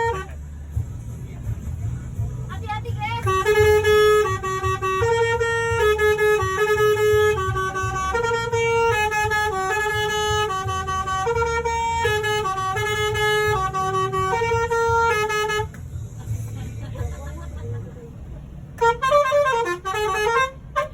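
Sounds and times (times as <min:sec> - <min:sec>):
multi-tone bus horn tune: 0:00.0 - 0:20.9.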